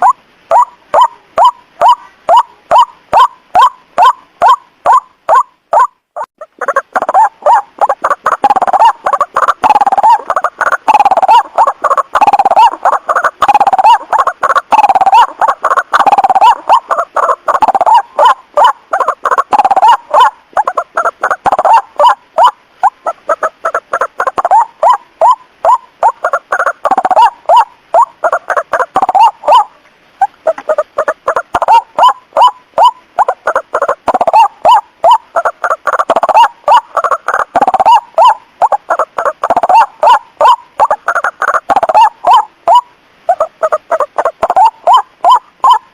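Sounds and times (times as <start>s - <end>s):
waterhen harsh croaking calls: 0.0s - 45.9s.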